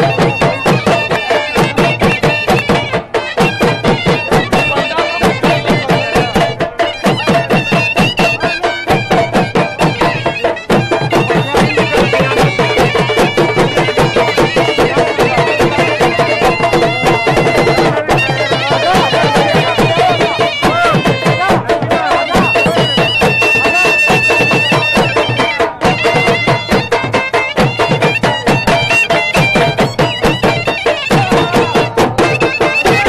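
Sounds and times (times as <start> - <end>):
dhol drums beaten with sticks: 0.0 - 33.0
shawm playing reedy melody: 0.0 - 33.0.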